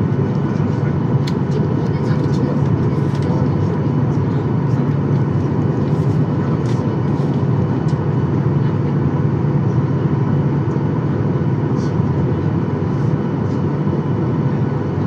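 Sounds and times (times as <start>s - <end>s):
jet engine cabin hum: 0.0s - 15.0s.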